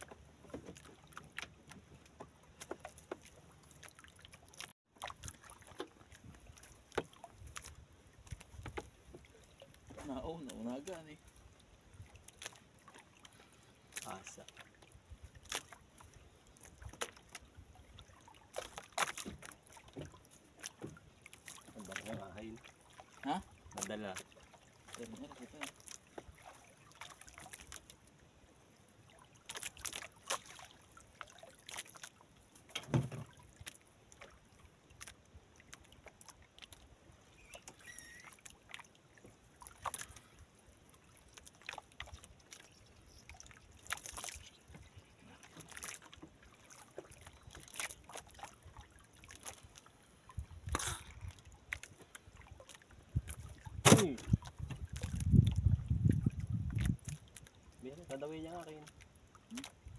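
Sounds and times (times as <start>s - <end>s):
water sloshing against boat: 0.0s - 59.9s.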